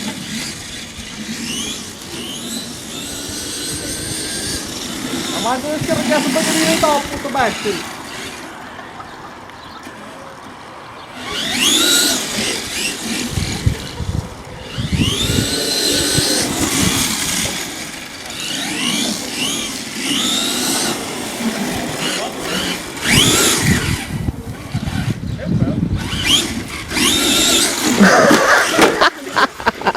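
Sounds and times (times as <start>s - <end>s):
electric motor whining: 0.0s - 8.6s, 11.1s - 29.8s
toy truck rumbling and knocking: 0.0s - 29.1s.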